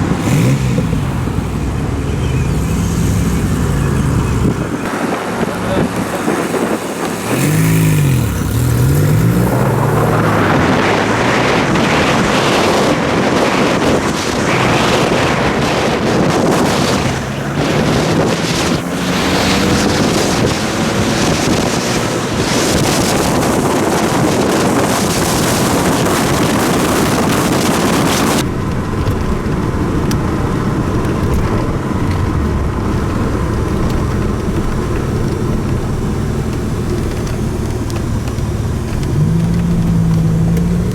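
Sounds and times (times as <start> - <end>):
car engine under load: 0.0 - 40.9
wind noise on microphone: 0.0 - 40.9.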